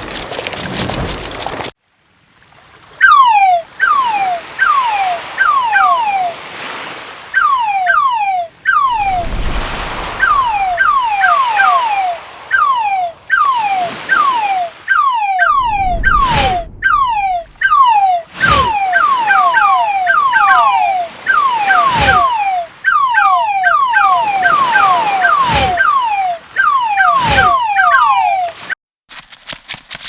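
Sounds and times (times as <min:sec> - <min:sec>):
cartoon squeaky chirps: 0:03.0 - 0:06.5, 0:07.4 - 0:28.7
surf washing: 0:03.1 - 0:28.6.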